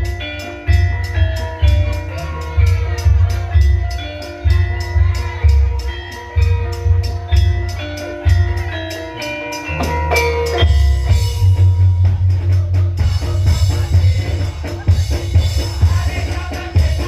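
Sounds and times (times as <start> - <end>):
drum strokes: 0.0 - 17.0.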